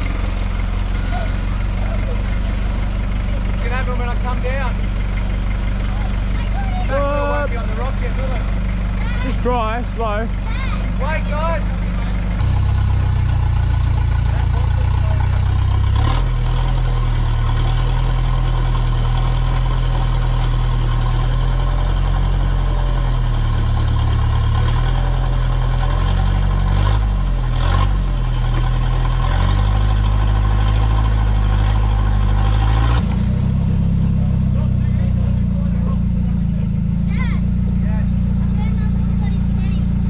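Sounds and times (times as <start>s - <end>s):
diesel truck engine at low revs: 0.0s - 40.0s.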